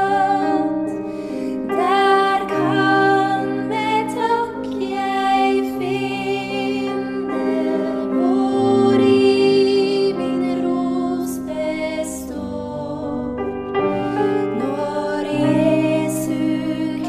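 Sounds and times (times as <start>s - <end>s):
person singing slow song: 0.0s - 17.0s
sustained instrumental accompaniment: 0.0s - 17.0s.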